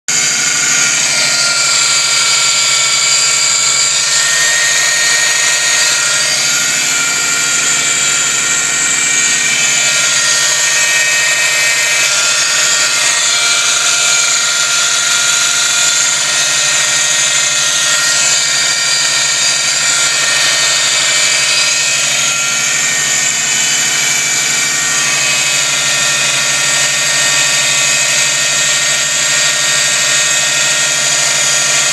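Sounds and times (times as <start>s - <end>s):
high whining buzz: 0.1s - 31.9s.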